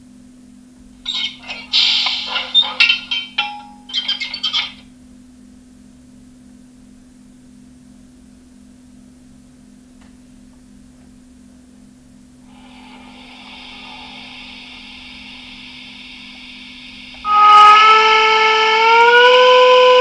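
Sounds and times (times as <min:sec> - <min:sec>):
low steady hum with pulse: 0:00.0 - 0:20.0.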